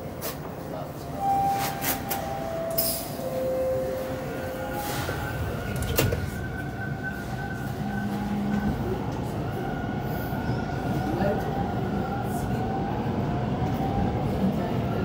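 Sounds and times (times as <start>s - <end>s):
subway car noise with whine: 0.0s - 15.0s.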